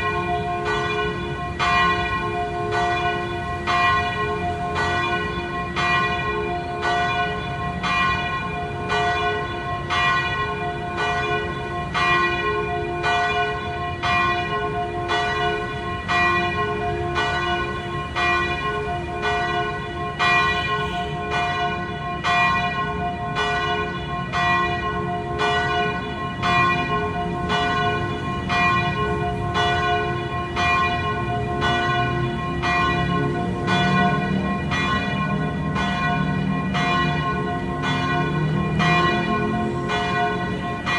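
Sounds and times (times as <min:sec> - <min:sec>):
church bell pealing: 0:00.0 - 0:40.9.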